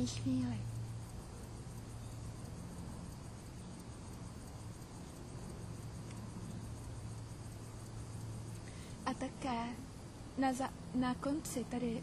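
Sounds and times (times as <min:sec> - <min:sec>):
low hum: 0:00.0 - 0:11.7
background hiss: 0:00.0 - 0:12.0.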